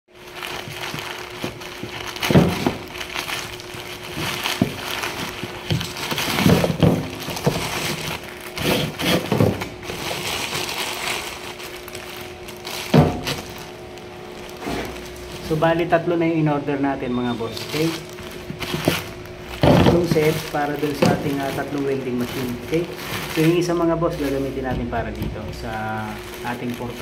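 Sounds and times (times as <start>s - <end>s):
plastic bags crinkling: 0.1s - 27.0s.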